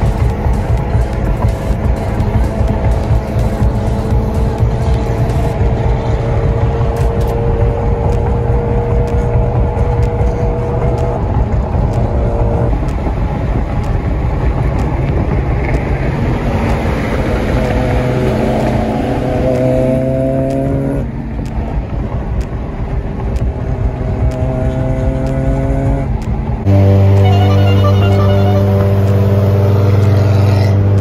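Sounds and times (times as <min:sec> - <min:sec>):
car engine drone: 0:00.0 - 0:31.0
engine revving: 0:00.0 - 0:31.0
road noise: 0:00.0 - 0:31.0.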